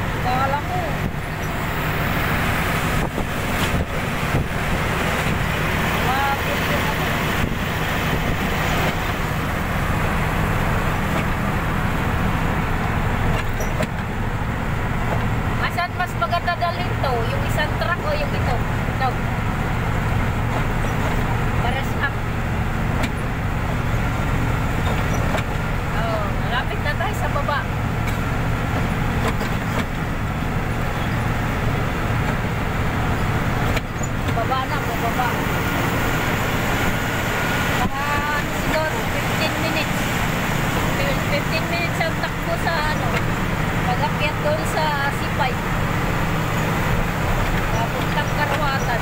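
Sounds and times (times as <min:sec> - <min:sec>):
road noise from inside vehicle: 0:00.0 - 0:49.0
vehicle engine drone: 0:00.0 - 0:49.0.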